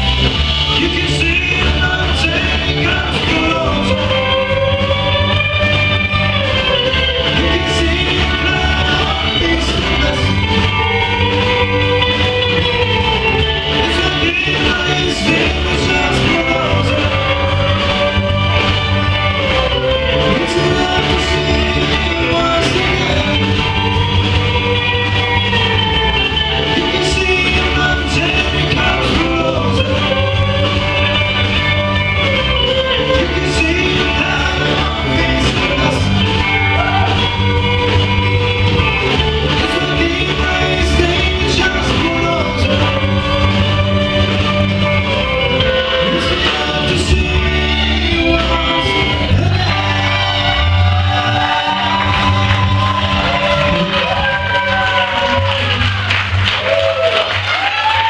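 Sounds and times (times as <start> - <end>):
bass notes: 0.0 - 58.0
live rock band playing: 0.0 - 58.0.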